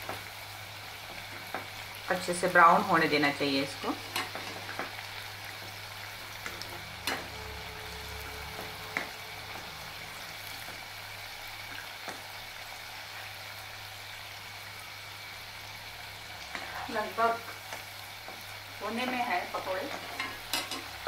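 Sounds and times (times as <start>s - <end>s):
deep-frying sizzle: 0.0s - 21.0s.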